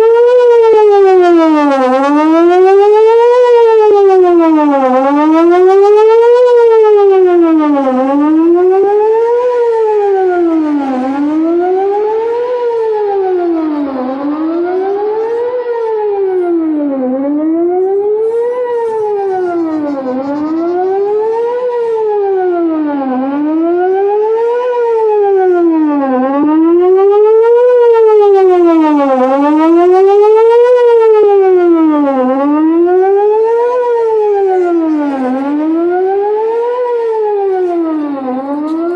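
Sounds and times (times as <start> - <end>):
wailing tornado siren: 0.0 - 38.9.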